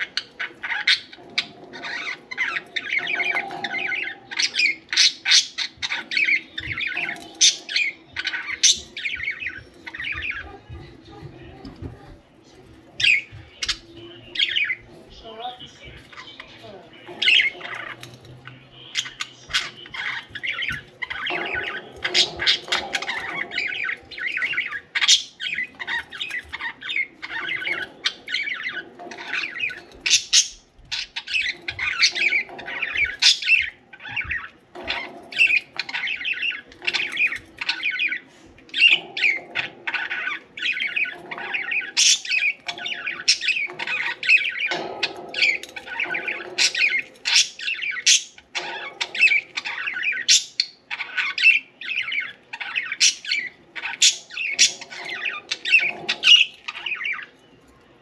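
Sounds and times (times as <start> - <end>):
budgerigars chattering: 0.0 - 12.1, 12.9 - 57.4.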